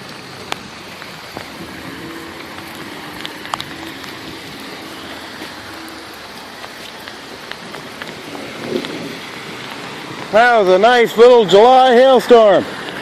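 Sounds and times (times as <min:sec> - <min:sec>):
rain pattering: 0:00.0 - 0:13.0
water dripping: 0:00.0 - 0:13.0.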